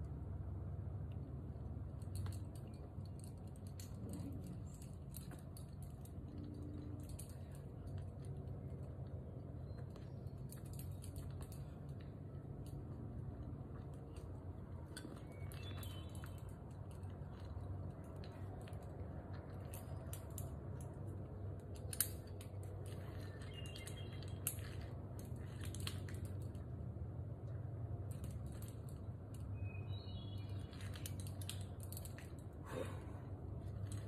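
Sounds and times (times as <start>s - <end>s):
climbing gear clicks and clinks: 1.0s - 34.0s.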